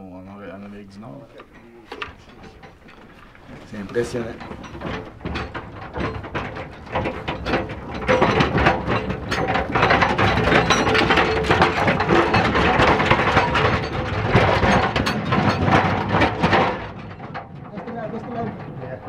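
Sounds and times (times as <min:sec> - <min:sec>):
mine cart rattling on rails: 0:01.0 - 0:19.0.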